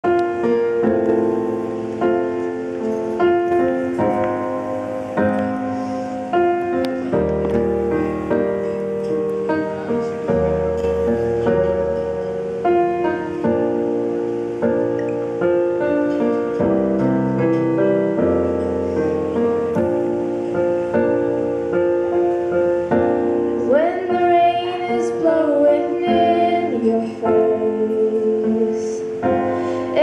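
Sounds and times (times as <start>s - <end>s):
gentle piano over loudspeakers: 0.0s - 30.0s.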